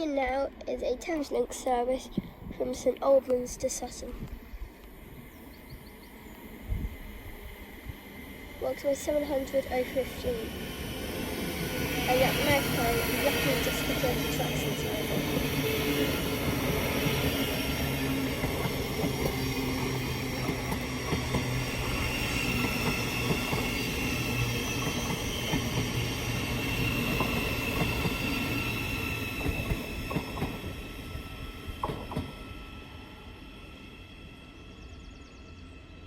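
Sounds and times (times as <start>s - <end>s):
electric train humming: 0.0s - 36.0s.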